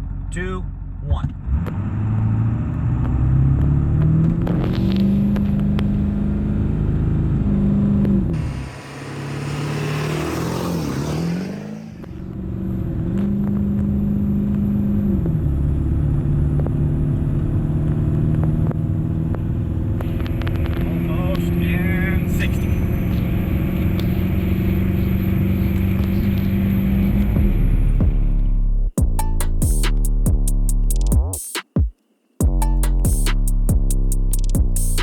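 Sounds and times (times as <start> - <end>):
diesel engine accelerating: 0.0 - 29.0.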